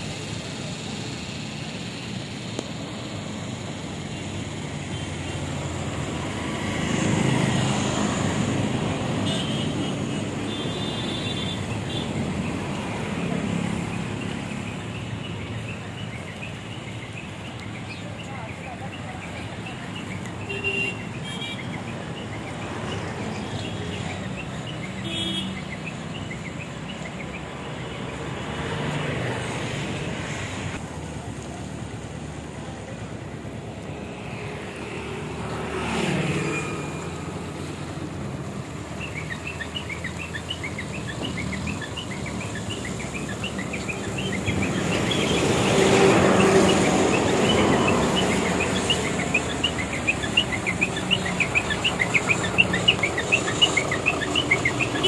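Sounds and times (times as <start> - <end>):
outdoor background noise: 0.0 - 55.0
road traffic passing: 0.0 - 55.0
birds chirping: 4.9 - 30.4, 34.0 - 55.0.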